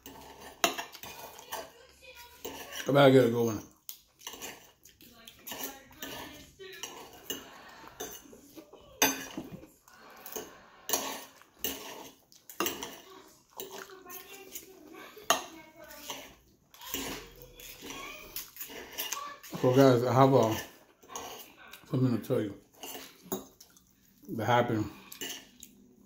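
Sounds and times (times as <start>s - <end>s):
cutlery scraping on a plate: 0.0s - 23.8s, 24.7s - 25.8s.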